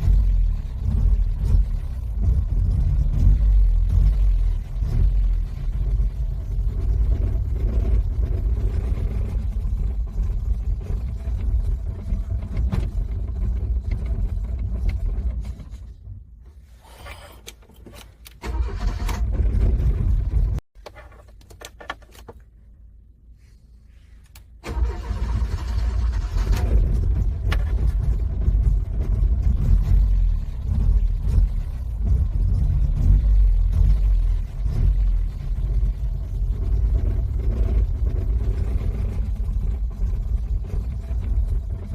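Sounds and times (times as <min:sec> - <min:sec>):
car engine cranking: 0:00.0 - 0:22.4, 0:24.6 - 0:41.9.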